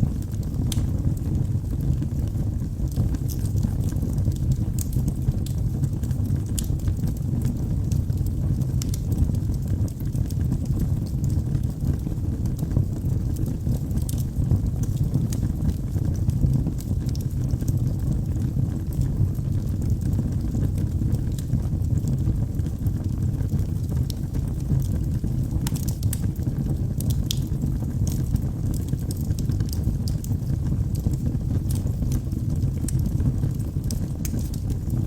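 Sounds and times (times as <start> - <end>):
logs crackling and popping: 0.0 - 35.0
low rumble of flames: 0.0 - 35.0.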